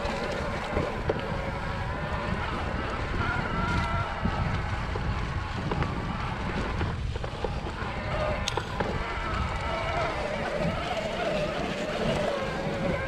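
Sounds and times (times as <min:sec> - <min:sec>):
electric bike motor whining: 0:00.0 - 0:13.0
wind rumble on microphone: 0:00.0 - 0:13.0.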